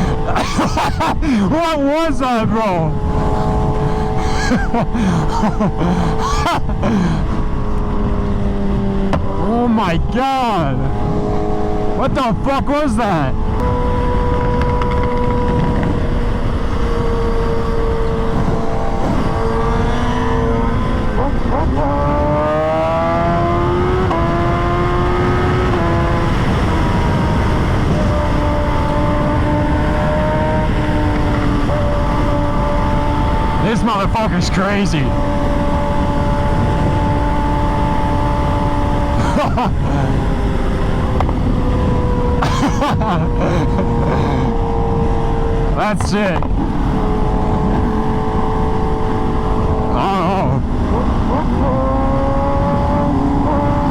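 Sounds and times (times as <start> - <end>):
engine at high revs: 0.0 - 53.9
wind and road rumble: 0.0 - 53.9.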